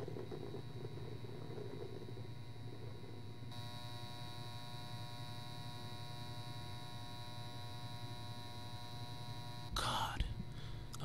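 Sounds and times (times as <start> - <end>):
low electrical hum: 0.0 - 11.0
thin high whine: 0.0 - 11.0.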